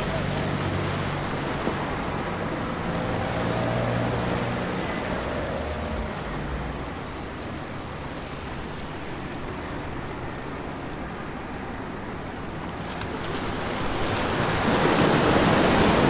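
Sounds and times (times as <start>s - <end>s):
low engine hum: 0.0s - 16.0s
waves washing over rocks: 0.0s - 16.0s.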